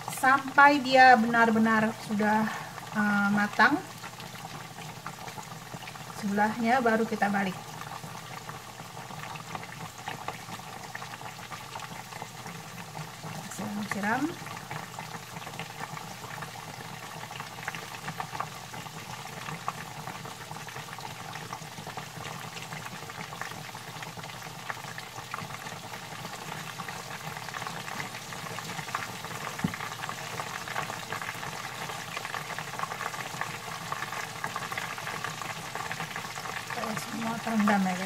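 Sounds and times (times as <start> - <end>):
fish deep-frying in oil: 0.0 - 38.0.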